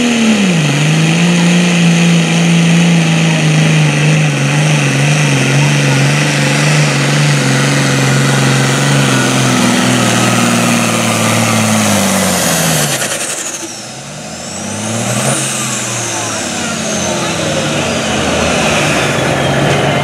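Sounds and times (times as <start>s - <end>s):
tractor diesel engine revving: 0.0s - 20.0s.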